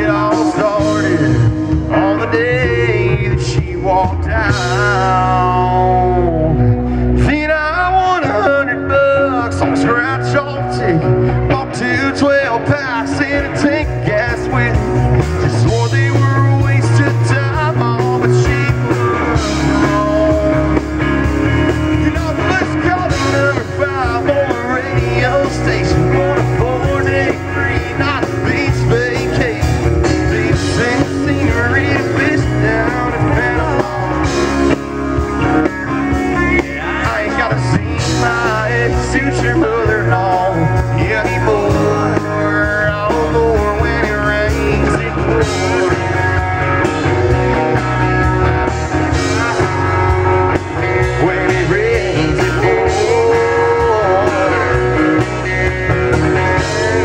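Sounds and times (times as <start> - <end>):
country-rock band playing: 0.0 - 57.0.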